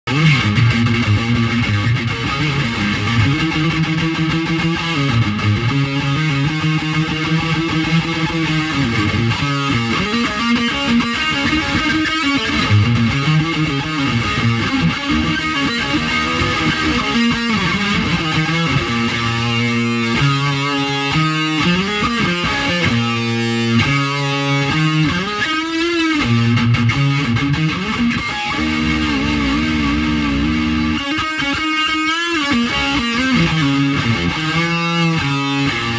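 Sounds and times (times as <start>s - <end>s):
electric guitar riff: 0.0s - 35.9s.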